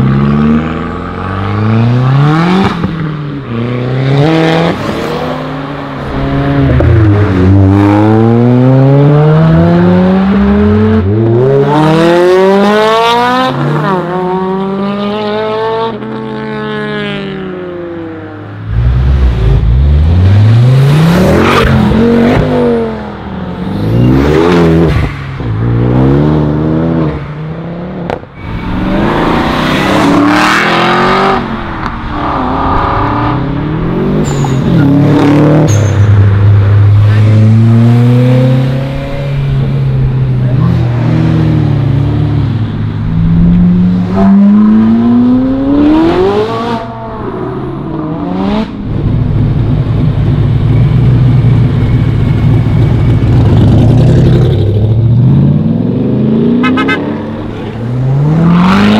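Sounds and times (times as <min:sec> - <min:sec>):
cars accelerating hard: 0:00.0 - 0:50.1, 0:51.7 - 0:58.9.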